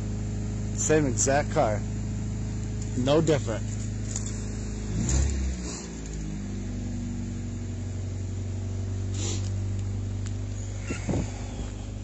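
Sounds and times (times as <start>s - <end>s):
engines idling: 0.0s - 12.0s.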